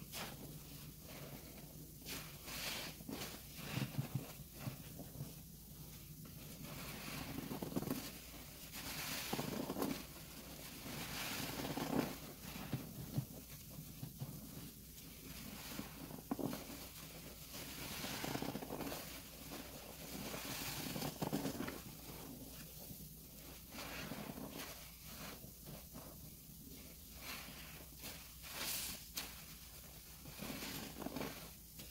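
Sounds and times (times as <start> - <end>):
foam crackling: 0.1 - 31.9
wet sponge squelching: 0.1 - 31.9.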